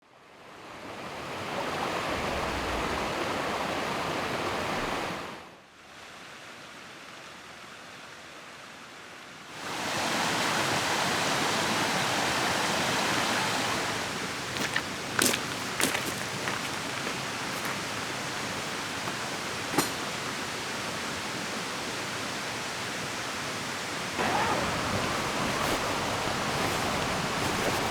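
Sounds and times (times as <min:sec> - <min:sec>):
rain: 0:00.5 - 0:27.9
river water rushing: 0:00.6 - 0:06.5, 0:09.6 - 0:27.9.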